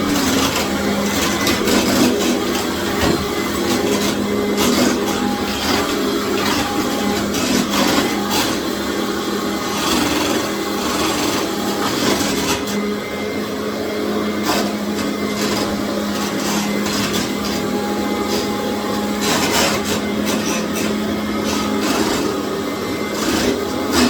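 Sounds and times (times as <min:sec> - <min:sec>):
floor tool scraping tile: 0:00.0 - 0:24.0
vacuum cleaner motor hum: 0:00.0 - 0:24.0.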